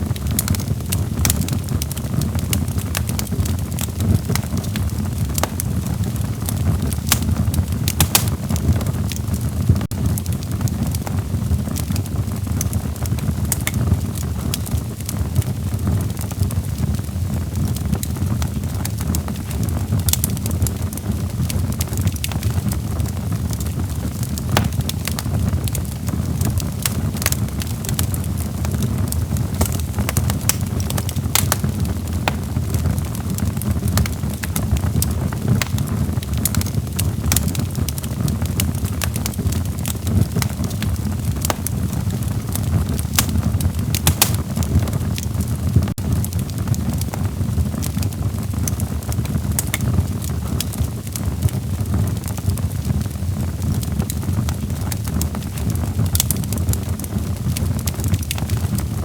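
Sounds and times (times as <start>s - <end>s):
log fire crackling and popping: 0.0s - 59.0s
low fire rumble: 0.0s - 59.0s.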